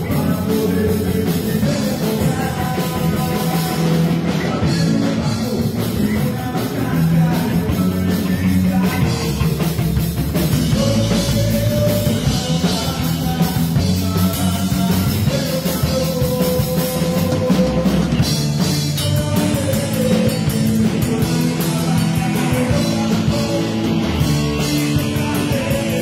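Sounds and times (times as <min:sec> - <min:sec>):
loud live rock band: 0:00.0 - 0:26.0.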